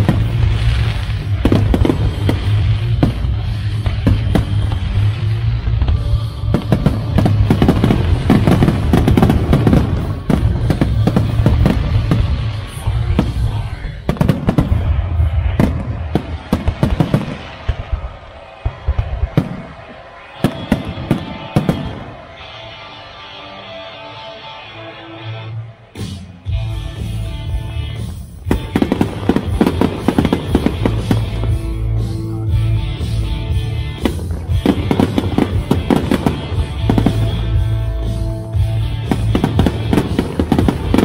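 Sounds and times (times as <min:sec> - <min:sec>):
fireworks bursting and crackling: 0:00.0 - 0:23.2, 0:27.9 - 0:41.0
loud music: 0:00.0 - 0:41.0.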